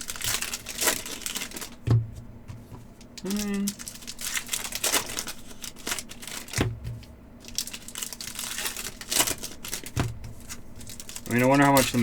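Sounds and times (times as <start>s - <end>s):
wrappers tearing and crinkling: 0.0s - 1.9s, 3.1s - 6.8s, 7.4s - 12.0s.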